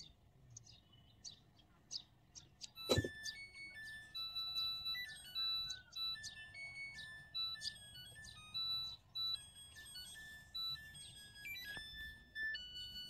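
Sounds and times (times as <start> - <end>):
washing machine beeping melody: 2.4 - 13.0.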